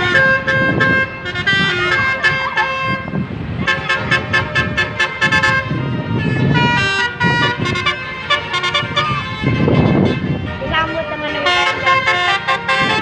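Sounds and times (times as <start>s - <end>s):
multi-tone musical bus horn: 0.0s - 13.0s.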